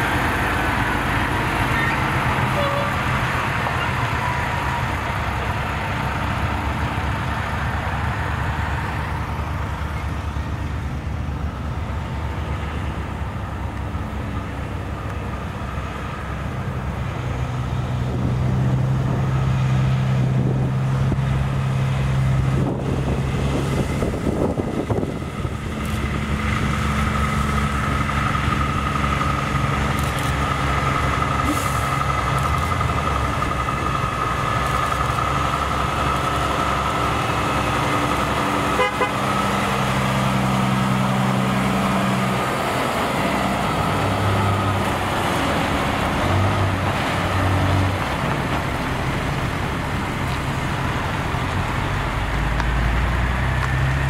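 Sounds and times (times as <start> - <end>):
diesel truck engine passing: 0.0 - 54.0.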